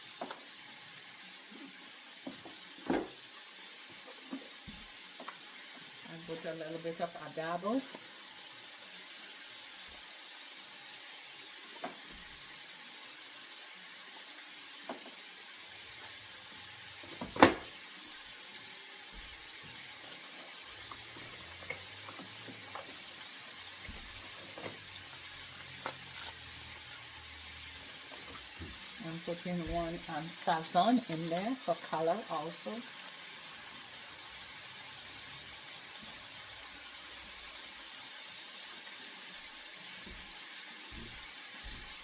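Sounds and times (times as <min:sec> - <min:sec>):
vegetables sizzling in oil: 0:00.0 - 0:42.0.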